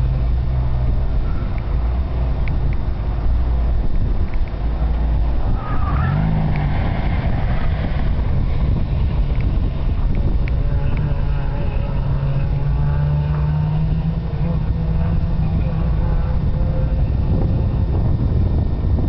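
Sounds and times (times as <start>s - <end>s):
car engine revving: 0.0s - 19.0s
wind rumbling on microphone: 0.0s - 19.0s.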